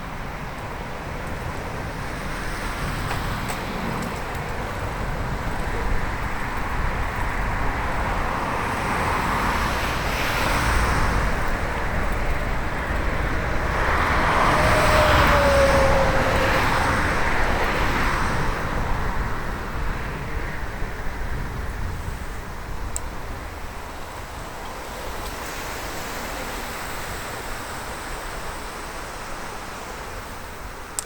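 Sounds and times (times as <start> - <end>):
motor traffic passing: 0.0 - 26.8
wind and road rumble: 0.0 - 31.0.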